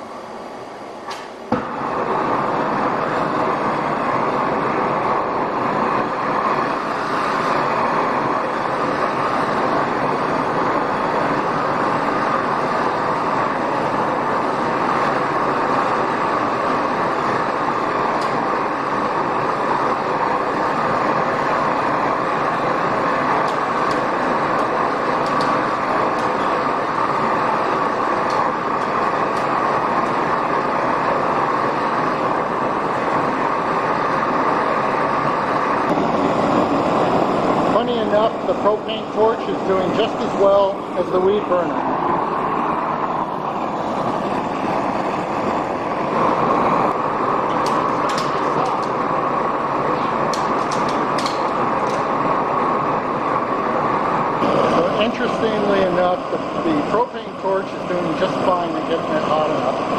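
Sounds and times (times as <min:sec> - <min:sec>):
torch flame roaring: 0:00.0 - 0:59.9.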